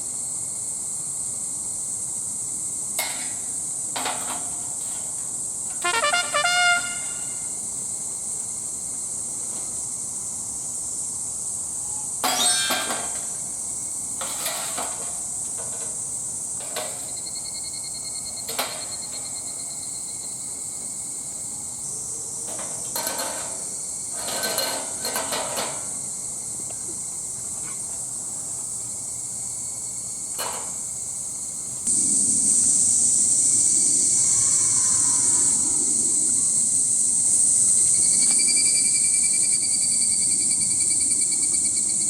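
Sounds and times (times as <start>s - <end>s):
steady high hiss: 0.0s - 42.0s.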